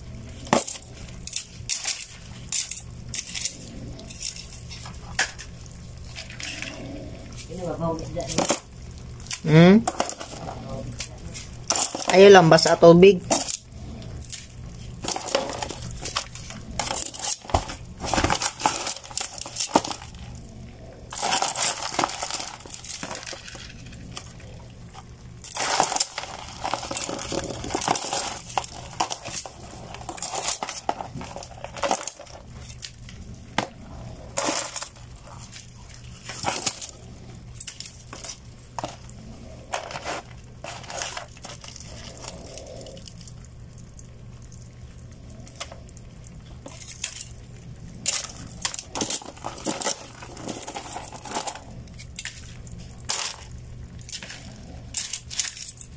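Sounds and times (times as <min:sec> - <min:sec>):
shells clattering in a basin: 0:00.3 - 0:20.4, 0:21.1 - 0:43.9, 0:45.3 - 0:55.9.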